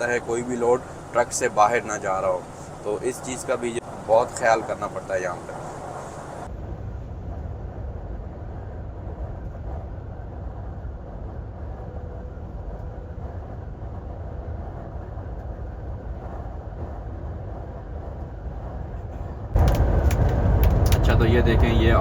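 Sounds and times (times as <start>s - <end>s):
vehicle moving along road: 0.0s - 22.0s.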